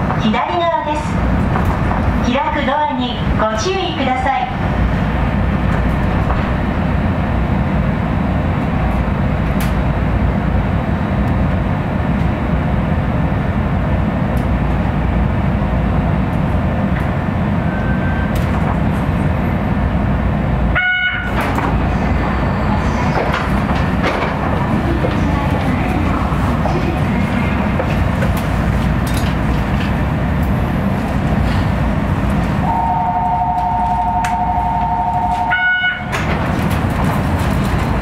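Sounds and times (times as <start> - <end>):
monorail train rumble and hiss: 0.0 - 38.0.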